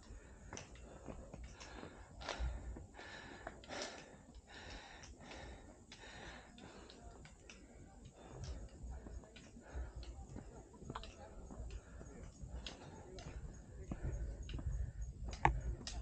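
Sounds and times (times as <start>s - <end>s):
light clicks: 0.0s - 16.0s
person breathing hard: 0.0s - 16.0s.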